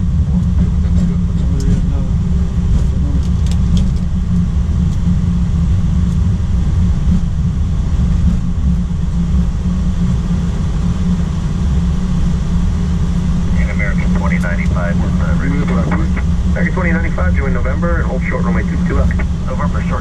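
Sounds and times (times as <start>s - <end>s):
airliner cockpit rumble: 0.0s - 20.0s.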